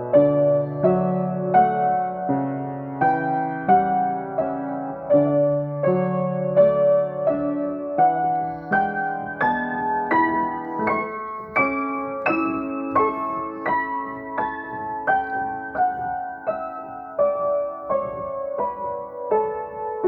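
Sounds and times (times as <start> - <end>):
piano single notes: 0.0 - 20.0.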